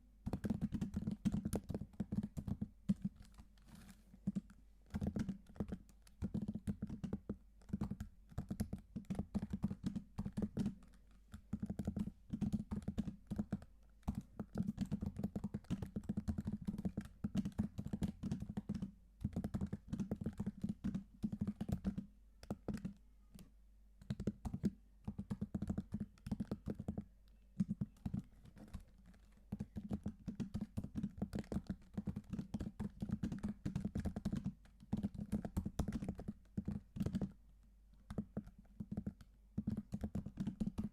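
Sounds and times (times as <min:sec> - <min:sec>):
typing on computer keyboard: 0:00.3 - 0:37.4, 0:38.0 - 0:40.9.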